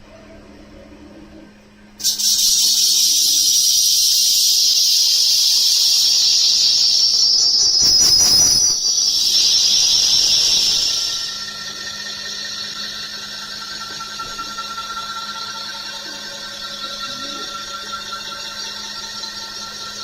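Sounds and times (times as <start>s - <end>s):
lathe high-pitched hiss: 2.0s - 20.0s.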